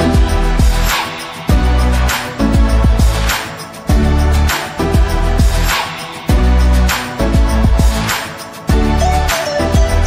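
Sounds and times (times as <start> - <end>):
music with heavy bass: 0.0 - 10.0.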